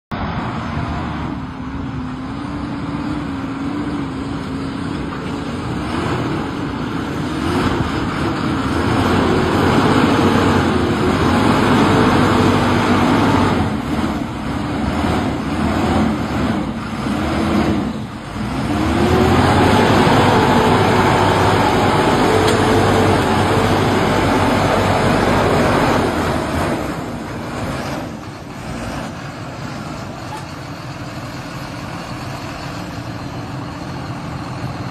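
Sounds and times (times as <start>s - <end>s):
tractor engine revving: 0.2s - 34.9s.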